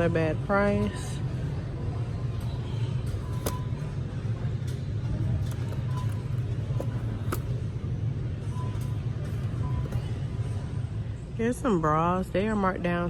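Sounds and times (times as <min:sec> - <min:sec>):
store background rumble: 0:00.0 - 0:13.0.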